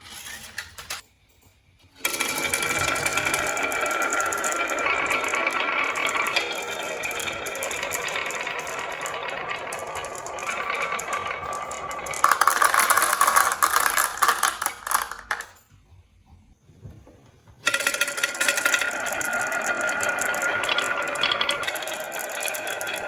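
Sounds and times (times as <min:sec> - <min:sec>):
marbles rolling down a wooden run: 0:02.0 - 0:15.6, 0:17.6 - 0:23.0.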